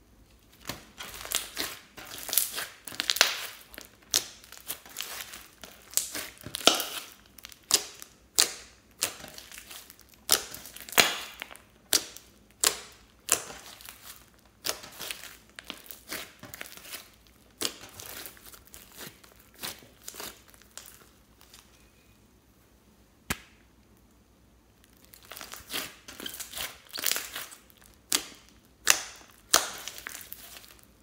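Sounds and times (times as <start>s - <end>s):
slime popping and crackling: 0.5s - 21.6s, 24.8s - 30.9s.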